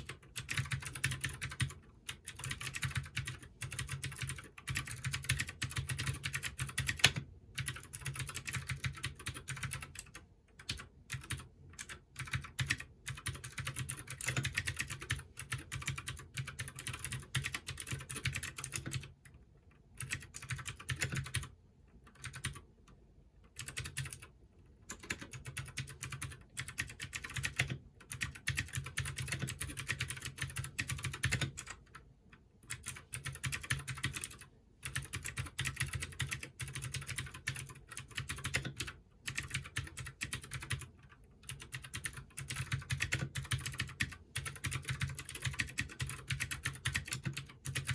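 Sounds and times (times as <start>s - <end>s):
mechanical keyboard typing: 0.0s - 47.9s.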